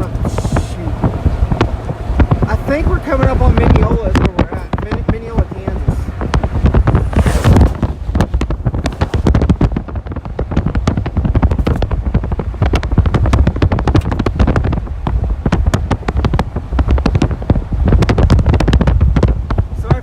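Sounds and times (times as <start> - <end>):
road rumble inside vehicle: 0.0 - 20.0.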